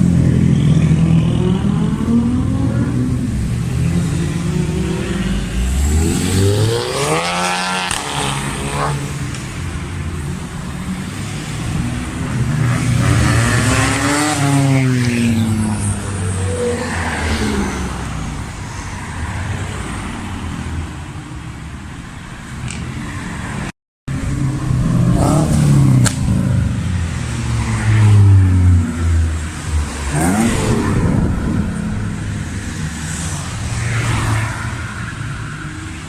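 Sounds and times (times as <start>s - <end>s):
car engines revving and accelerating: 0.0s - 36.0s.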